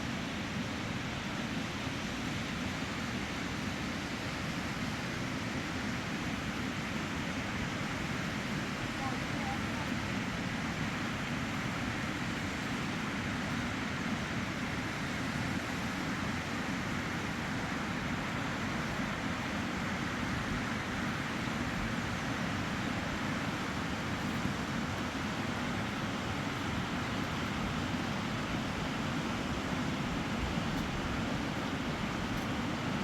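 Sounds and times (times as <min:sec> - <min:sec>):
river water rushing: 0:00.1 - 0:33.0.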